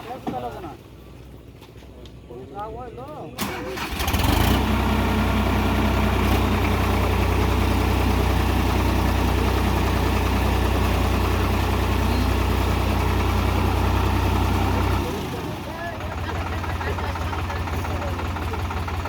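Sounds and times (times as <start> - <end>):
tractor diesel engine idling: 3.4 - 19.0.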